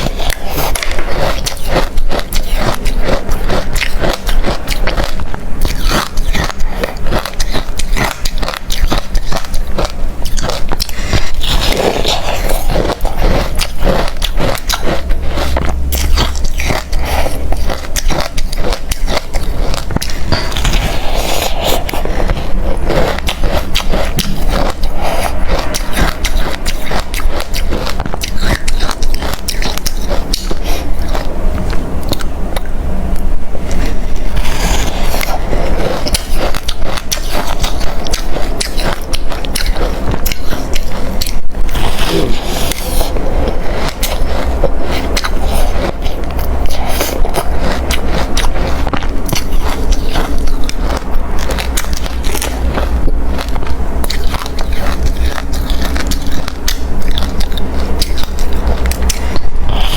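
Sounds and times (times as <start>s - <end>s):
crunching ice being chewed: 0.0s - 59.9s.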